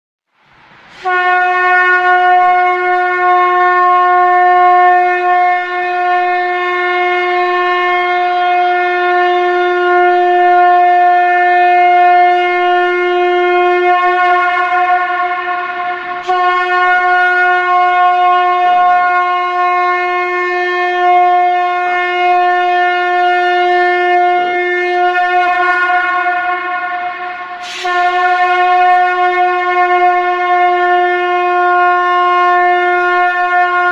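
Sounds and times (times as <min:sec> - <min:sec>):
conch shell blown: 0:00.8 - 0:33.9.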